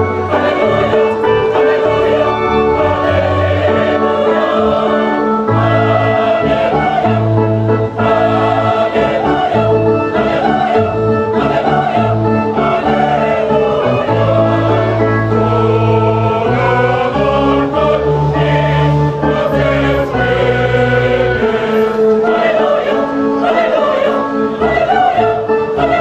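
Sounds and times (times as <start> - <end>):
choir singing gospel: 0.0 - 26.0
instrumental accompaniment: 0.0 - 26.0.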